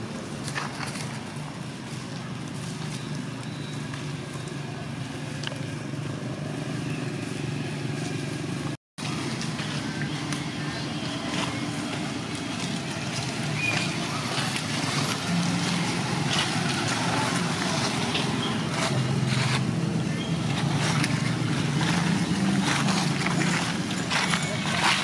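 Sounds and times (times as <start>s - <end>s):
dry leaves crackling: 0.0s - 25.0s
engine humming: 0.0s - 25.0s.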